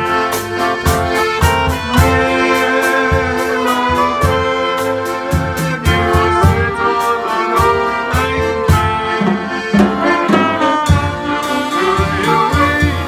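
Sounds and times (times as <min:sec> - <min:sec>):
accordions playing melody: 0:00.0 - 0:13.0
guitar: 0:00.0 - 0:13.0
steady beat: 0:00.0 - 0:13.0.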